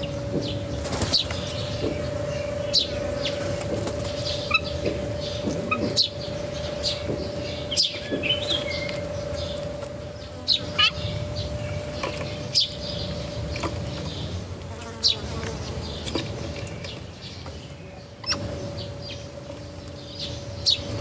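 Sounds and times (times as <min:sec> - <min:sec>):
small birds chirping: 0:00.0 - 0:21.0
steady hum: 0:00.0 - 0:21.0.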